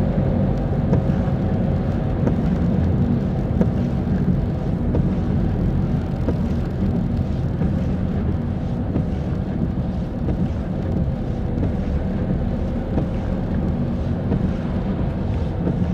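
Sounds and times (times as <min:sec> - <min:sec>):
car engine: 0:00.0 - 0:15.9
tyres on wet road: 0:00.0 - 0:15.9.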